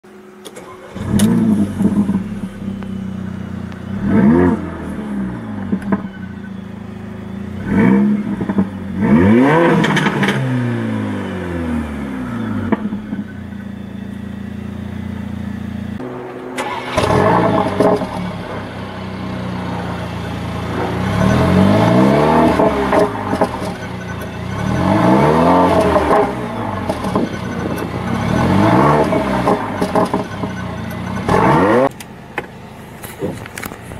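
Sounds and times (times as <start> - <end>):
car engine idling: 0.0 - 33.9
car engine starting: 0.1 - 33.9
engine revving in blips: 0.4 - 33.9.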